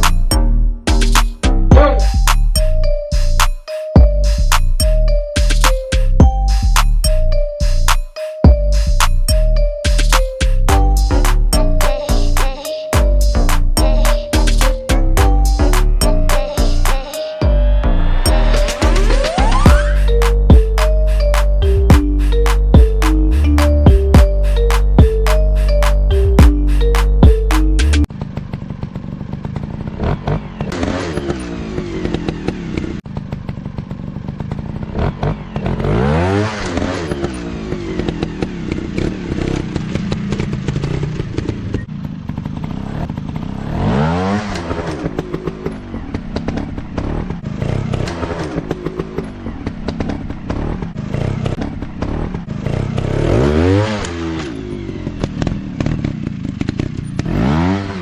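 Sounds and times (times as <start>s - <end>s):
dirt bike engine revving: 8.7s - 58.0s.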